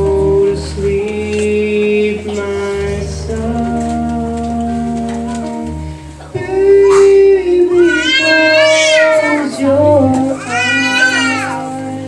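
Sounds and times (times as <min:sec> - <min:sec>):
children's choir singing: 0:00.0 - 0:12.0
instrumental accompaniment: 0:00.0 - 0:12.0.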